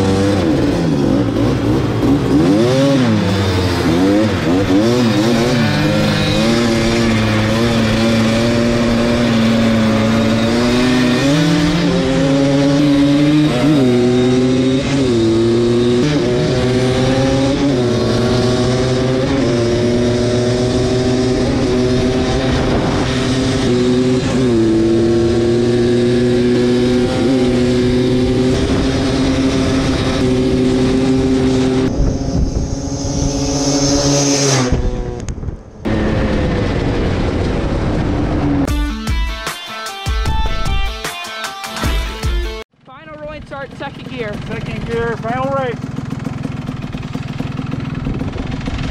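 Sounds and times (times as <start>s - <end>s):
two-stroke engines at full throttle: 0.0s - 38.7s, 42.6s - 48.9s.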